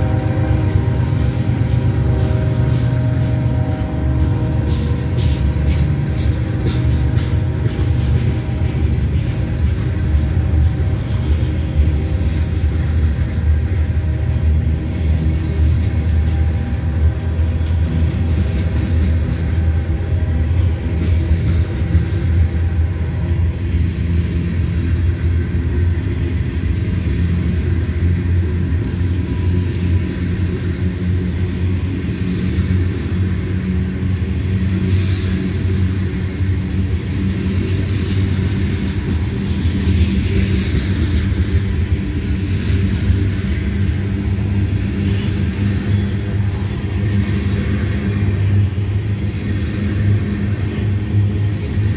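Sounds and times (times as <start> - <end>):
locomotive diesel drone: 0.0 - 51.9
train wheels rumbling on rail: 0.0 - 51.9.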